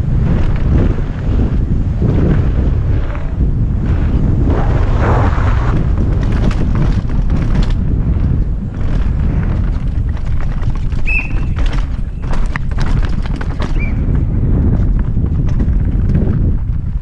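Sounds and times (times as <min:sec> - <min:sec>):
bike clattering and rattling: 0:00.0 - 0:04.8, 0:05.6 - 0:17.0
tyres rumbling on dirt: 0:00.0 - 0:17.0
wind buffeting microphone: 0:00.0 - 0:17.0.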